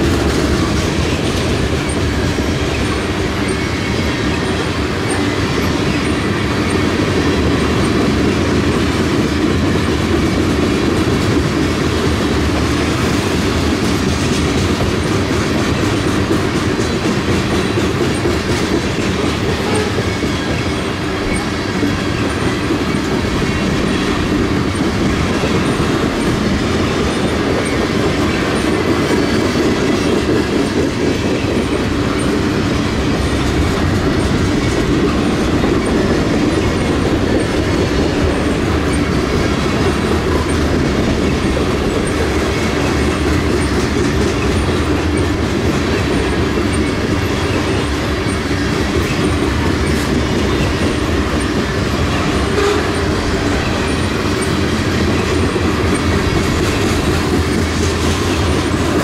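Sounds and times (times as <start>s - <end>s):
freight train wheels rumbling on rail: 0.0s - 59.0s
wheels clicking over track joints: 0.0s - 59.0s.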